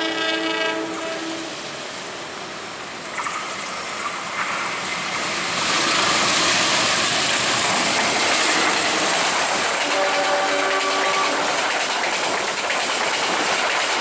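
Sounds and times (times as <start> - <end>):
passing train rush: 0.0 - 14.0.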